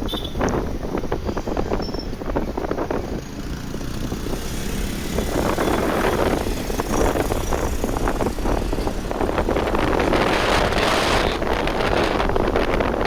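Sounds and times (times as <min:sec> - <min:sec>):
road noise: 0:00.0 - 0:13.0
motorcycle engine running: 0:02.4 - 0:13.0.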